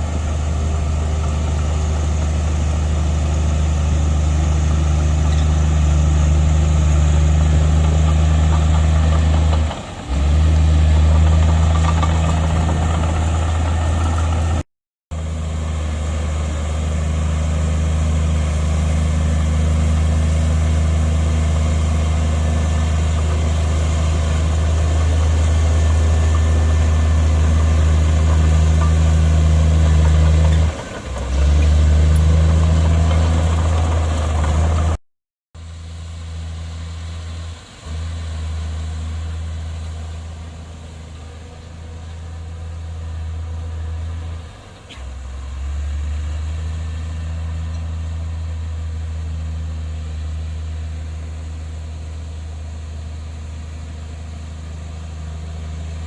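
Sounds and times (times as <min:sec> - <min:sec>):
heavy diesel engine droning: 0:00.0 - 0:35.0, 0:35.6 - 0:56.0.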